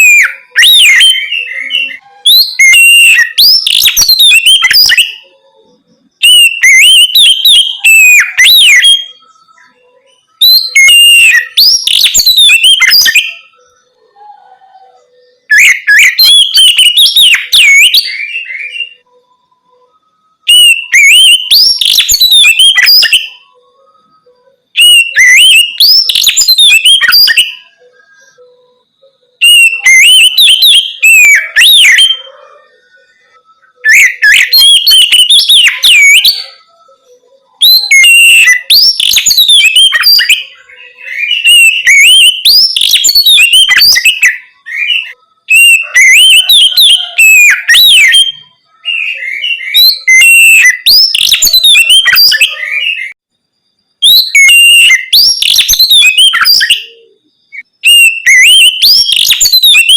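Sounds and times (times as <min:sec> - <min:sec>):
songbird whistles and trills: 0:00.0 - 0:59.9.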